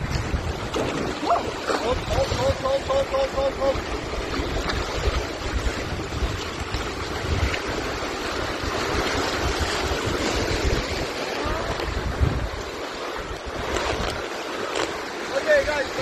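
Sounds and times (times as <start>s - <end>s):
wind buffeting microphone: 0.0s - 14.3s
rushing whitewater: 0.0s - 16.0s.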